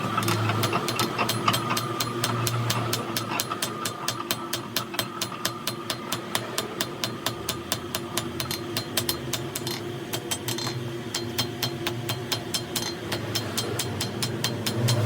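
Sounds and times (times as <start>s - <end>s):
steady hum: 0.0s - 15.0s
machine ticking rapidly: 0.2s - 15.0s.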